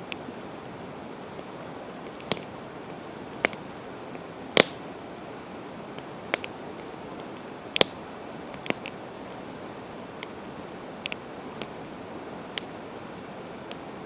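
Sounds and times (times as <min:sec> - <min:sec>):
sharp pops of fire: 0:00.0 - 0:02.6, 0:03.3 - 0:09.5, 0:10.1 - 0:12.8
campfire crackling: 0:00.0 - 0:14.0
steady hiss: 0:00.0 - 0:14.0.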